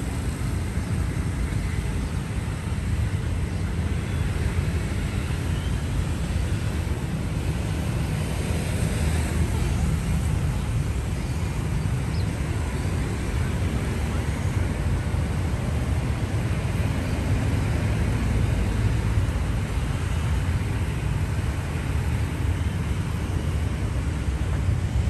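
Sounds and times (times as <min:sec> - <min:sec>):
distant city traffic rumble: 0:00.0 - 0:25.0.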